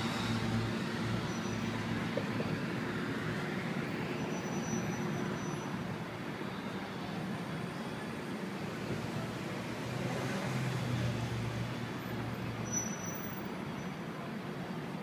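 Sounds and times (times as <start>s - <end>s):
passing vehicles: 0.0s - 15.0s.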